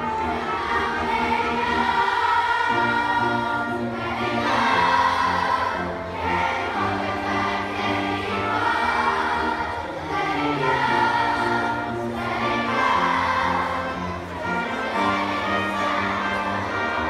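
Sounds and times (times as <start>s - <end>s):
children singing along: 0.0s - 17.0s.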